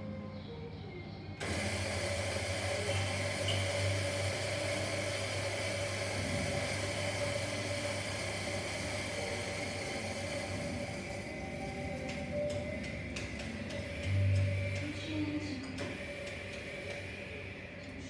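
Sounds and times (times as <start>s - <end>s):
electric coffee grinder running: 1.4s - 13.0s, 13.6s - 17.7s.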